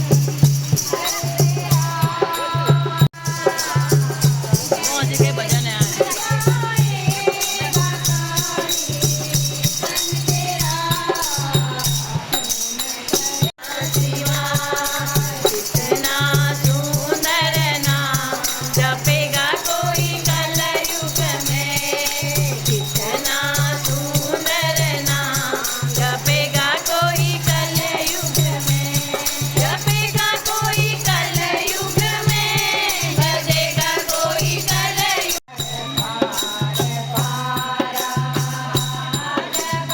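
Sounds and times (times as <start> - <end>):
steady low drum beat: 0.0 - 12.5, 13.1 - 39.9
jingling percussion: 0.0 - 39.9
voices singing devotional song: 0.0 - 39.9.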